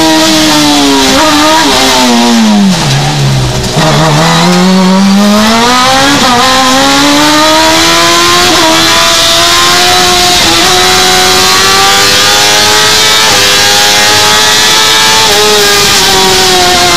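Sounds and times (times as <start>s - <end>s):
race car engine at high revs: 0.0s - 16.9s.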